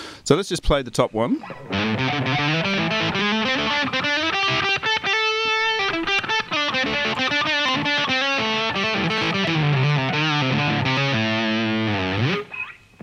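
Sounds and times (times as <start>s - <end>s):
electric guitar melody: 1.4s - 13.0s.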